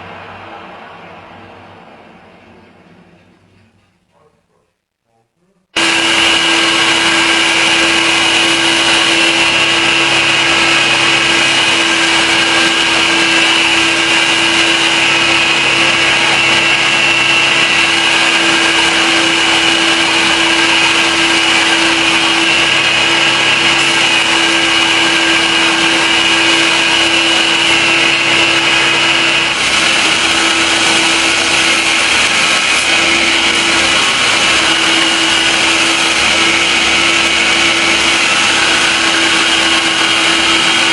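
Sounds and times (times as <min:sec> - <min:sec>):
power tool grinding: 0:05.8 - 0:40.9.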